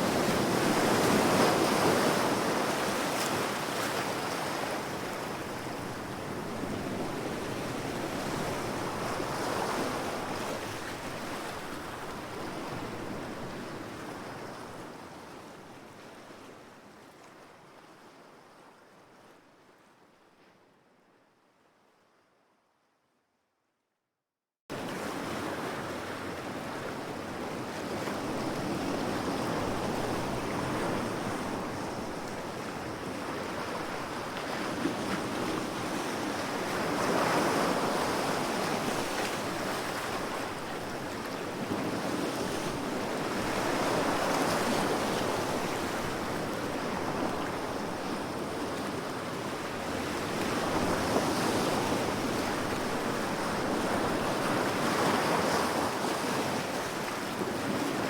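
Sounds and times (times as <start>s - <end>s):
ocean waves breaking on shore: 0.0s - 15.1s, 24.7s - 58.0s.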